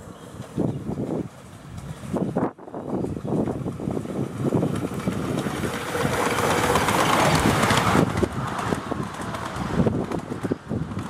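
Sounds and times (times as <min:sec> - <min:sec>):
miniature steam locomotive passing: 0:00.0 - 0:11.0.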